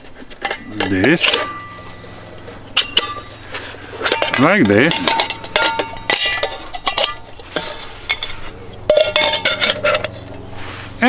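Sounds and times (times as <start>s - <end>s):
metal canister parts clinking: 0.0s - 10.5s
metal clang: 0.4s - 10.5s.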